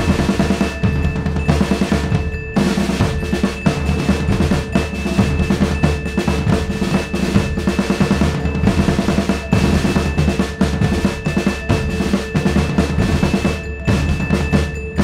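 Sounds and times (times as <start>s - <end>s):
driving drum beat: 0.0s - 15.0s
steady held tones: 0.0s - 15.0s.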